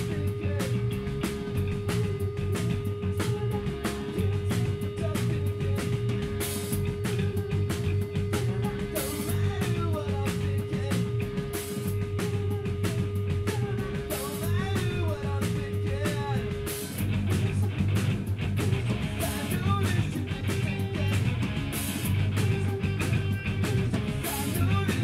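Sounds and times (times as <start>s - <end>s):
bass guitar: 0.0s - 25.0s
drum kit: 0.0s - 25.0s
electric guitars: 0.0s - 25.0s
man singing lead: 0.0s - 25.0s.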